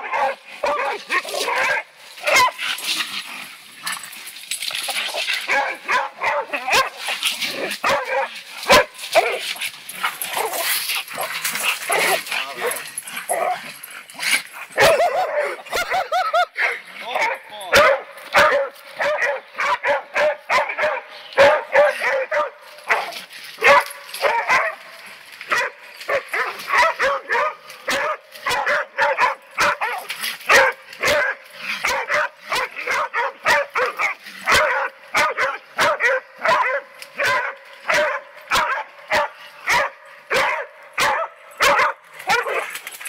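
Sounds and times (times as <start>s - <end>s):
hounds barking and yelping: 0.0s - 43.0s.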